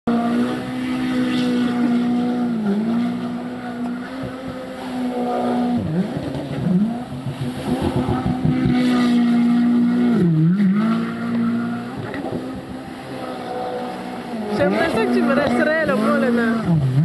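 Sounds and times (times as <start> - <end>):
personal watercraft engine running hard: 0.1 - 17.0.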